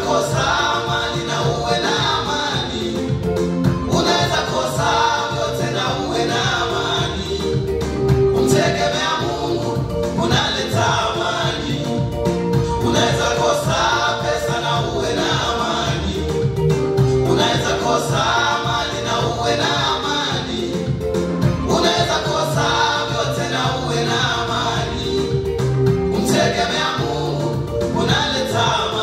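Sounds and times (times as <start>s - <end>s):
man singing into a microphone: 0.0s - 7.7s, 8.4s - 12.1s, 12.8s - 16.3s, 17.2s - 21.0s, 21.6s - 25.3s, 26.2s - 29.0s
instrumental backing with bass: 0.0s - 29.0s.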